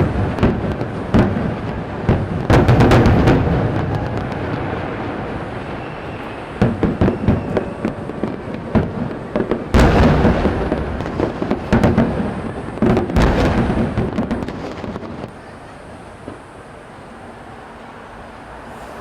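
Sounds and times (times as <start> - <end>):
heavy fireworks booms: 0.0 - 16.5
fireworks bangs and crackles: 0.0 - 16.9.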